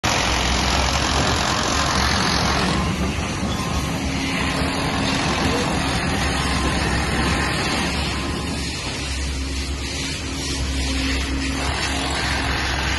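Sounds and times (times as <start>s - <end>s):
heavy machinery engines rumbling: 0.0s - 12.9s
street traffic: 0.0s - 12.9s.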